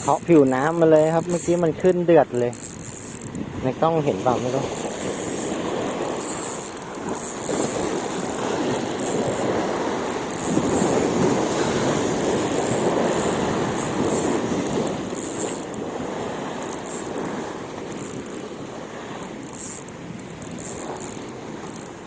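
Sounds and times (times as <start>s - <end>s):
strong wind buffeting microphone: 0.0s - 21.8s.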